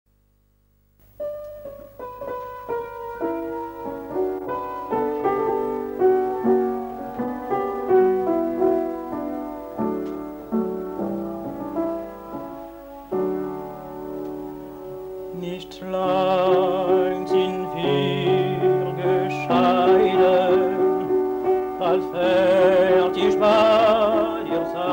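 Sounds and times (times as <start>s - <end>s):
upright piano playing: 1.2s - 24.9s.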